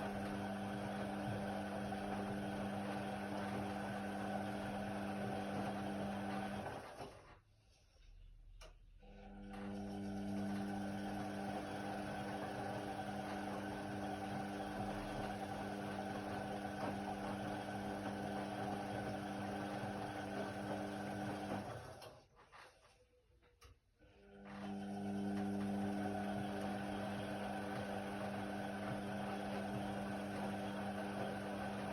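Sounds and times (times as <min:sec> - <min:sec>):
washing machine humming: 0:00.0 - 0:07.3, 0:09.1 - 0:22.5, 0:24.0 - 0:31.9.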